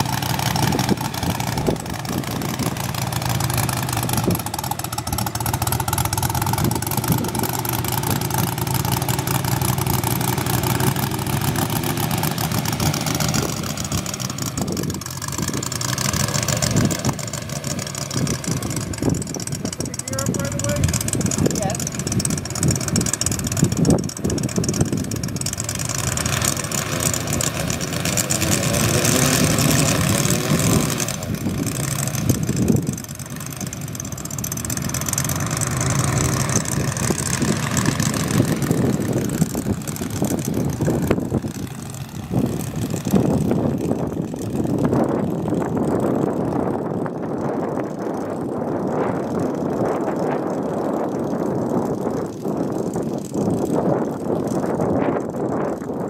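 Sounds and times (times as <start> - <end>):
model aircraft engine idling: 0.0 - 56.0.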